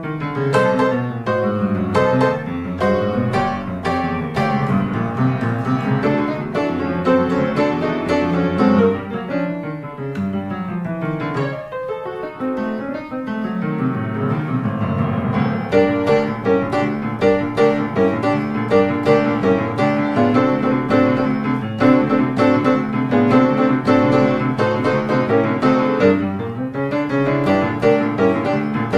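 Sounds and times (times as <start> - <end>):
piano music: 0.0 - 28.9.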